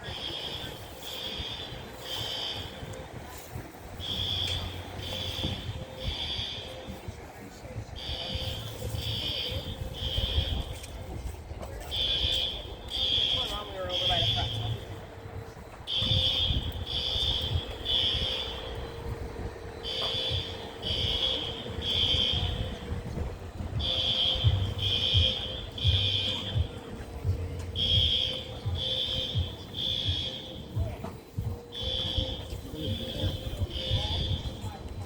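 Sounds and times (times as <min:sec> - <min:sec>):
fire alarm beeping: 0:00.0 - 0:35.0.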